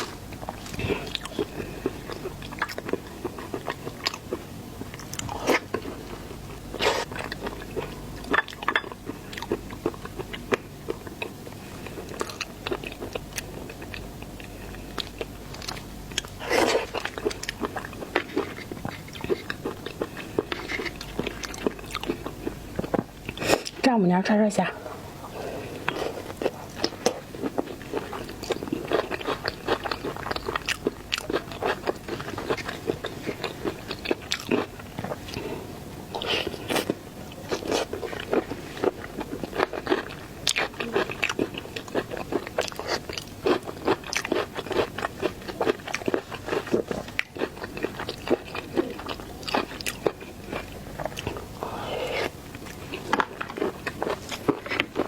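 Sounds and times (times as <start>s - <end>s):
crunchy chewing of shrimp: 0.0s - 23.8s, 24.8s - 55.0s.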